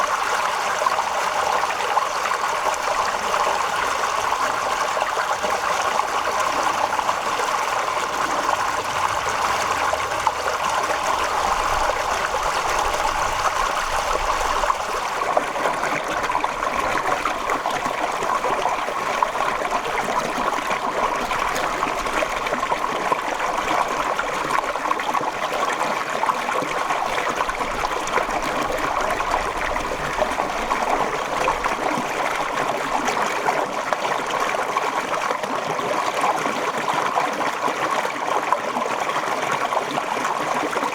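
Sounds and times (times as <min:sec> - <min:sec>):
water flowing and trickling: 0:00.0 - 0:40.9.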